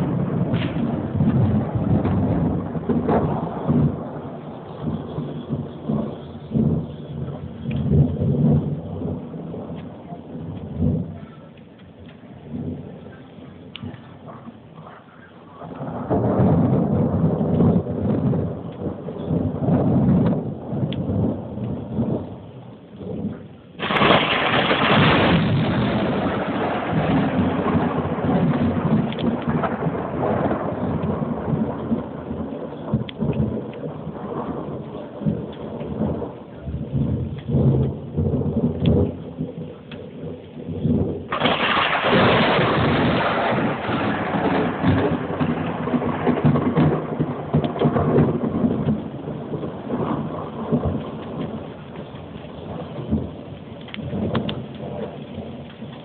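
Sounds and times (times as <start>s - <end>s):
steady rain: 0.0s - 56.0s
thunder rolling: 0.0s - 56.0s
thunderclap: 0.0s - 56.0s.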